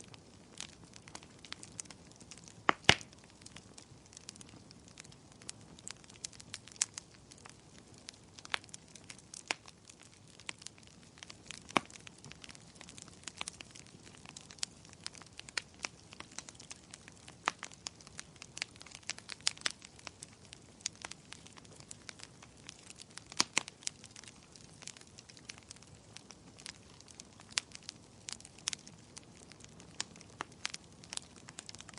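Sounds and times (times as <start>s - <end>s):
firewood crackling and popping: 0.0s - 31.9s.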